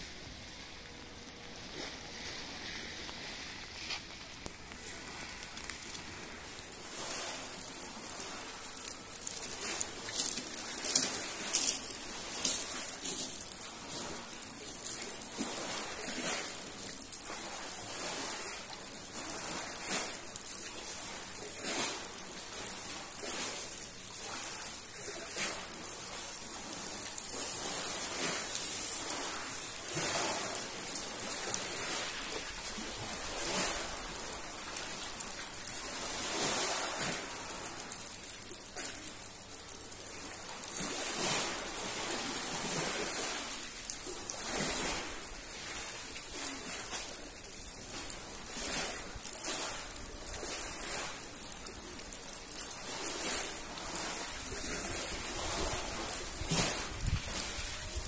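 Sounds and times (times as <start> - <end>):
rain hissing: 0.0 - 58.0
waves washing onto pebble beach: 0.0 - 58.0.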